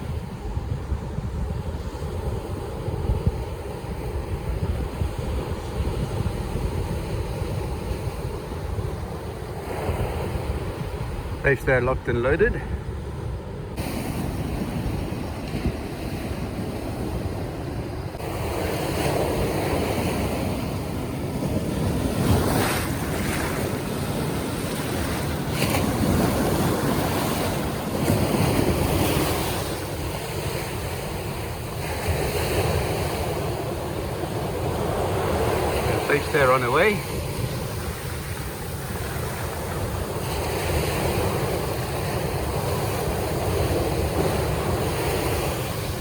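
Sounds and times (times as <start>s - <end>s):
surf breaking and washing: 0.0s - 46.0s
wind buffeting microphone: 0.0s - 46.0s.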